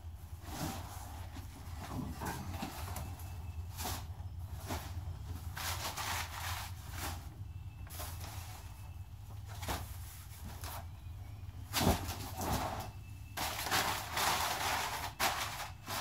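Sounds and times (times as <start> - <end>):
low steady hum: 0.0 - 16.0
rustling and clattering of gear: 0.1 - 16.0.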